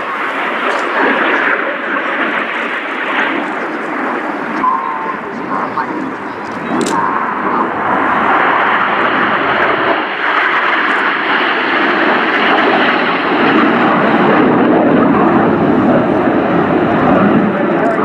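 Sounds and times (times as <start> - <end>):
jets flying overhead: 0.0 - 18.0.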